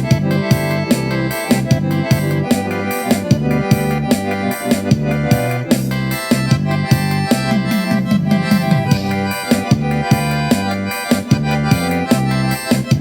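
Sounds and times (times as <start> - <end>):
accordion: 0.0 - 13.0
bass line: 0.0 - 13.0
steady drum beat: 0.0 - 13.0.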